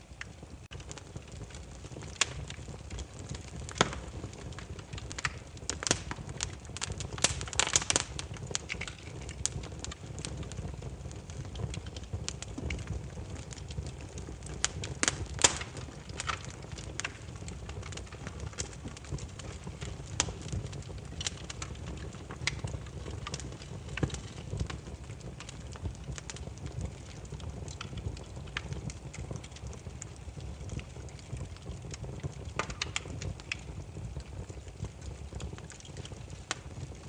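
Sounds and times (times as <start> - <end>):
firewood crackling and popping: 0.0 - 37.0
low rumble of flames: 0.0 - 37.0.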